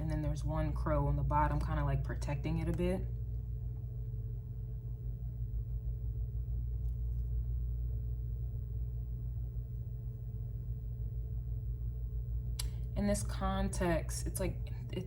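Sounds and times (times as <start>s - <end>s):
faint steady hum: 0.0s - 15.0s
low room rumble: 0.0s - 15.0s.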